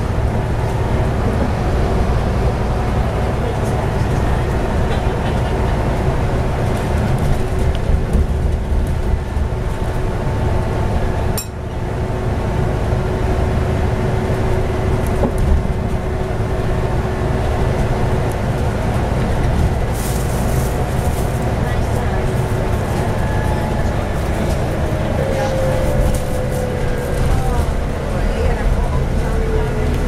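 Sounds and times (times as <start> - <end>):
bus engine drone: 0.0 - 30.0.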